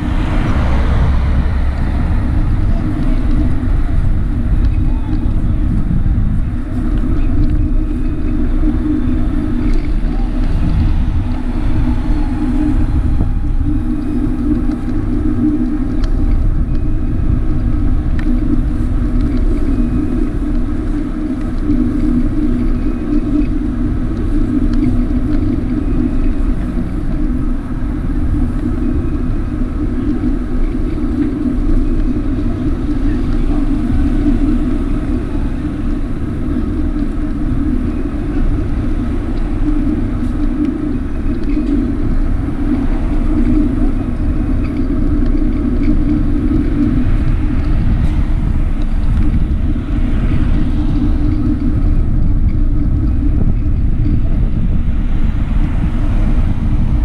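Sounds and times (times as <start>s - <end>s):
vehicle road noise rumble: 0.0s - 57.0s.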